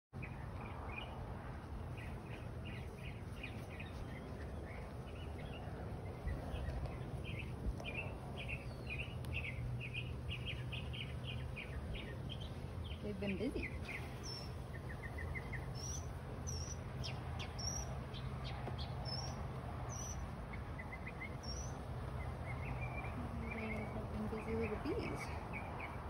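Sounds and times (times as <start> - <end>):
low background rumble: 0.2 - 26.0
songbird chirping: 0.2 - 26.0.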